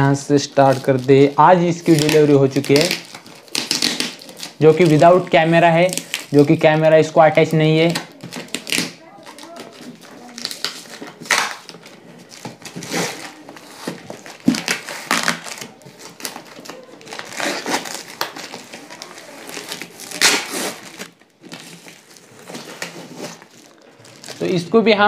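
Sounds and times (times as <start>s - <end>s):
cardboard rustling: 0.0s - 24.8s
packing tape ripping: 0.6s - 6.6s, 7.7s - 24.6s.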